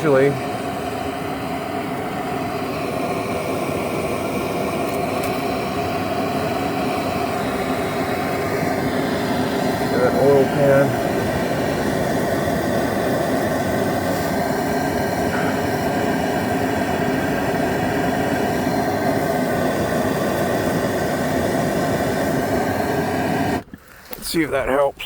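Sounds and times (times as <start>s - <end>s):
propane torch hissing: 0.0s - 24.9s.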